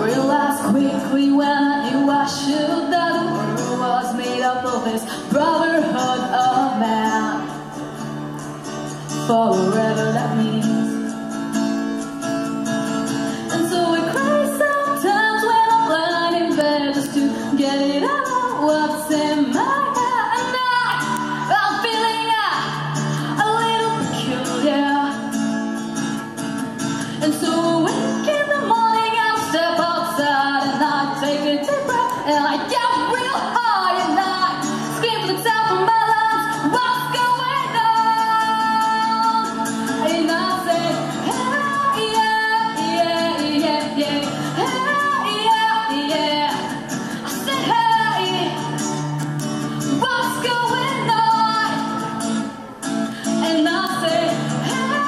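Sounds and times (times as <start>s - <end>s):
woman singing into a microphone: 0.0s - 8.1s, 9.0s - 11.4s, 13.1s - 25.6s, 26.8s - 55.0s
acoustic guitar playing chords: 0.0s - 55.0s.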